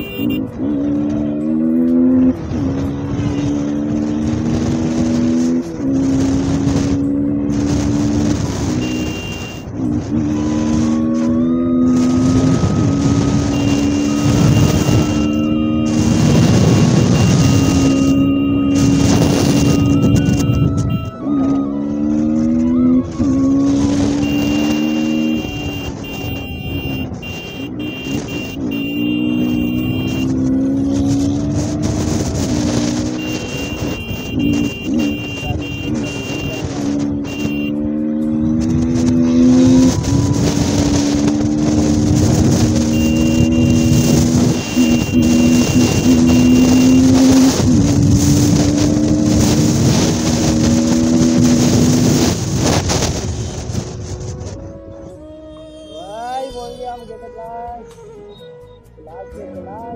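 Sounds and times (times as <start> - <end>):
wind and road noise: 0.0 - 59.9
motorcycle engine under throttle: 1.5 - 21.1, 22.4 - 54.7.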